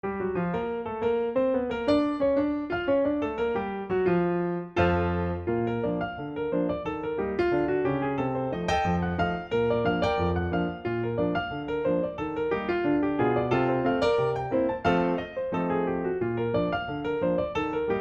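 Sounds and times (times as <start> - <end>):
piano chords and notes: 0.0 - 18.0.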